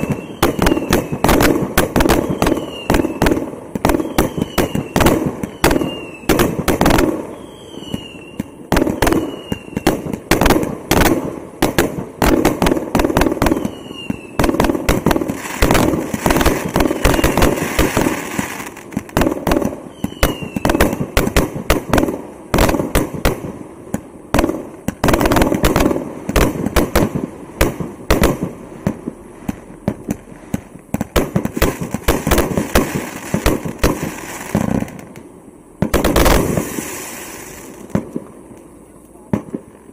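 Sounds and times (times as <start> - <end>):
falling firework whistles: 0.0 - 23.5, 24.3 - 38.3
fireworks launching and bursting: 0.0 - 39.9.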